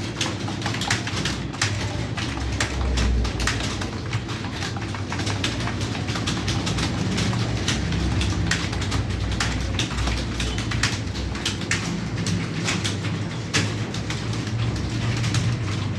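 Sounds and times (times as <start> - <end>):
keyboard keys clacking: 0.0 - 15.9.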